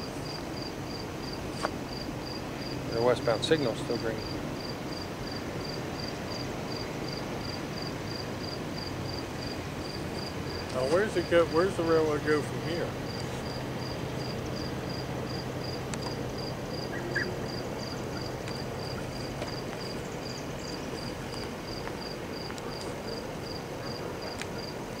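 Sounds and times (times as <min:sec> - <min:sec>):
background hiss: 0:00.0 - 0:25.0
insect chirping: 0:00.0 - 0:25.0.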